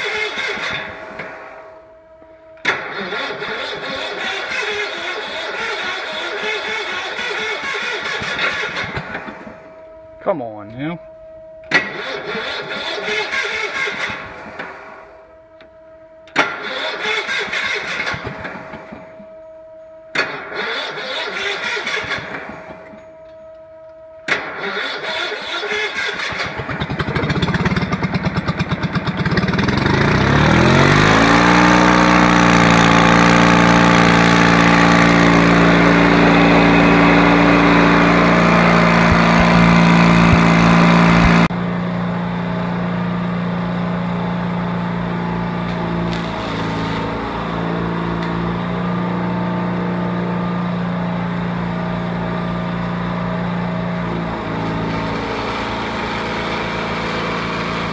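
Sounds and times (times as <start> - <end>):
engine cranking and running: 0.0 - 10.0, 11.6 - 41.7, 44.0 - 57.9.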